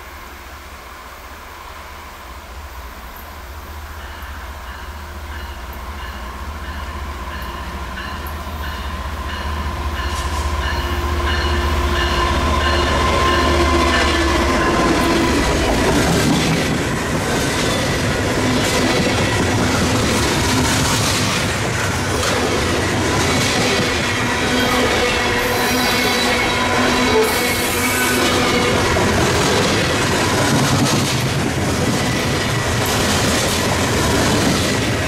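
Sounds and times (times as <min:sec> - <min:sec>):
diesel locomotive engine drone: 0:00.0 - 0:35.0
train wheels clacking on track: 0:04.0 - 0:35.0.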